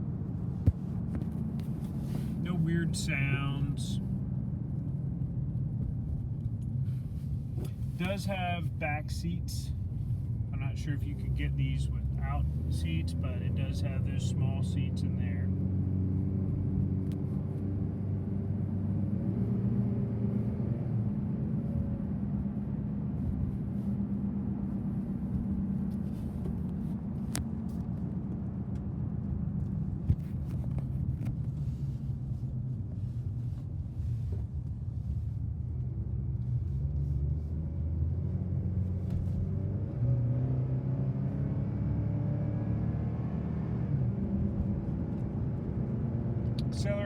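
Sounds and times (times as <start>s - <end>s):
truck engine and road noise: 0.0s - 47.0s.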